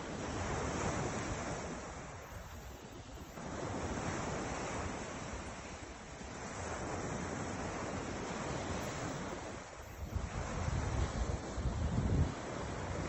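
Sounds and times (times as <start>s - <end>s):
ocean waves breaking on shore: 0.0s - 13.0s.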